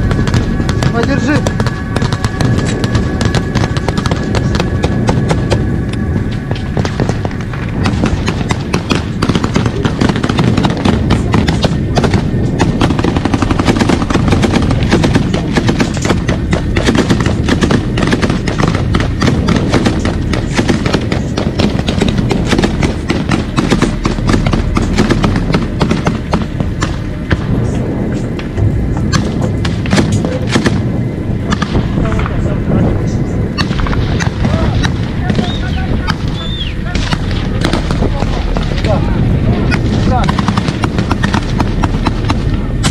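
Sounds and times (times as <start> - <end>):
machine gun firing: 0.0 - 5.7, 6.4 - 27.7, 29.0 - 32.3, 33.6 - 42.9.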